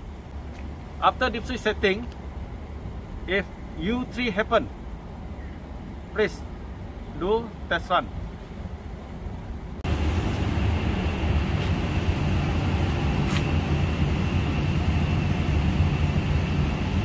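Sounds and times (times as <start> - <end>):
air conditioning units humming: 0.0 - 17.0.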